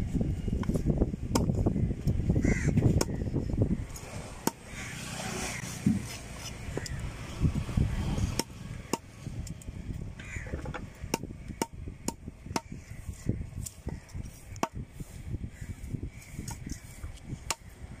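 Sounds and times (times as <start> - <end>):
low background rumble: 0.0 - 4.9, 5.8 - 18.0.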